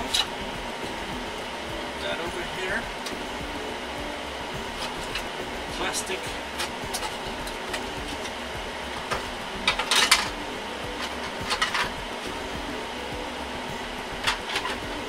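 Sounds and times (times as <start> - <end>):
steady fan hum: 0.0 - 15.0.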